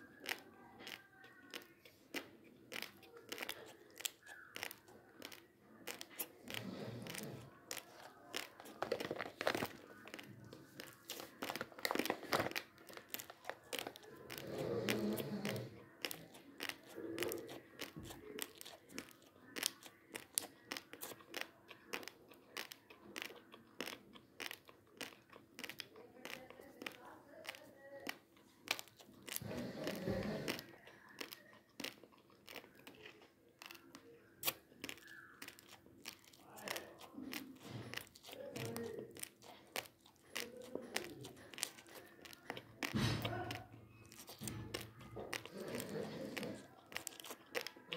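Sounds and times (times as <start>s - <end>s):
chewing dry rice grains: 0.0s - 47.9s.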